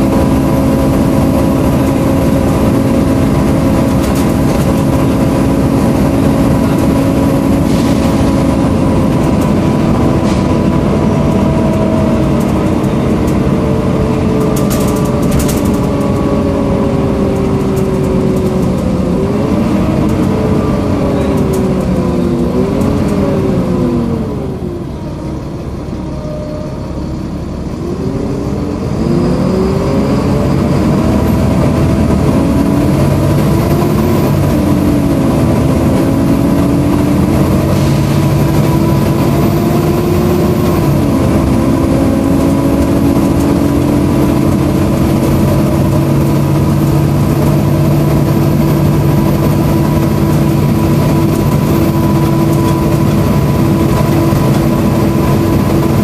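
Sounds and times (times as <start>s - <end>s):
bus diesel engine: 0.0s - 56.0s
engine cooling fan whine: 0.0s - 56.0s.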